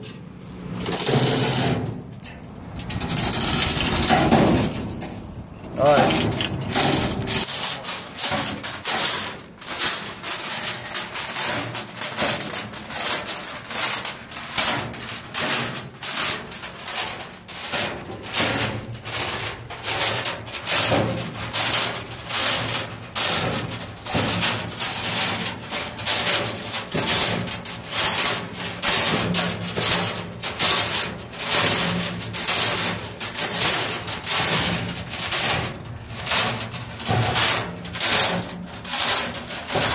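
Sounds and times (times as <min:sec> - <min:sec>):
chain rattling through hoist: 0:00.6 - 0:39.9.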